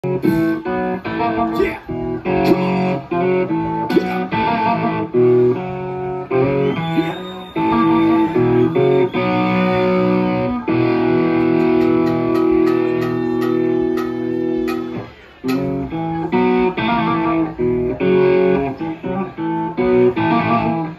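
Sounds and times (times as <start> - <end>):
live rock band playing: 0.0 - 20.9.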